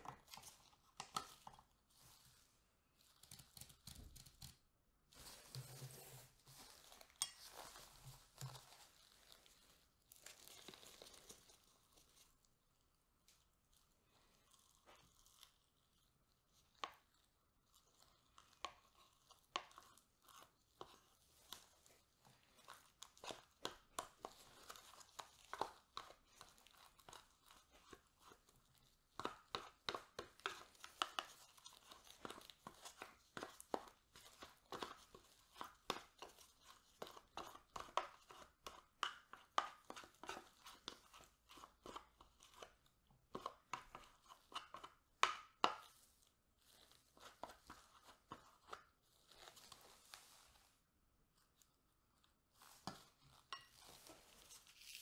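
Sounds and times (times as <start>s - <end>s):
plastic spoon scraping yogurt cup: 0.0s - 2.4s, 5.1s - 12.3s, 16.5s - 50.7s, 52.5s - 55.0s.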